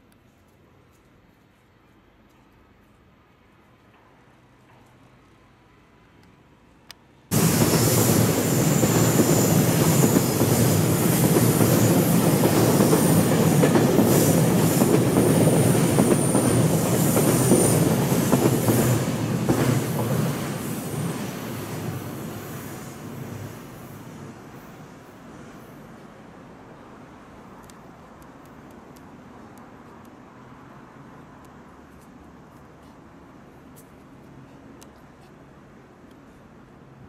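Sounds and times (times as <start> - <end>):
train passing rumble and rattle: 7.3 - 37.0.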